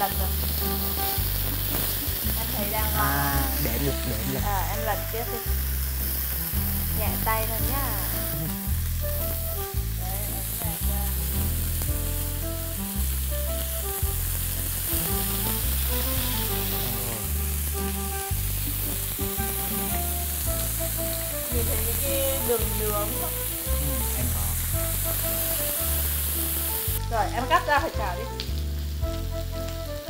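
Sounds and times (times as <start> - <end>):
background music: 0.0 - 30.0
burger patties sizzling: 0.0 - 30.0.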